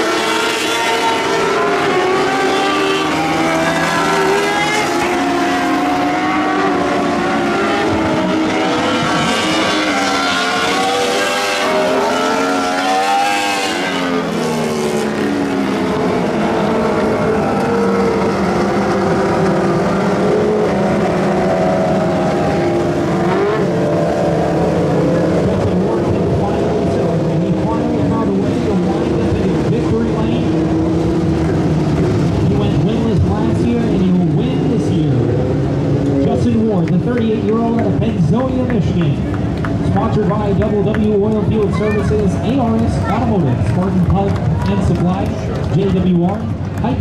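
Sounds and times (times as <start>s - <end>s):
race car engines at high revs: 0.0s - 47.0s.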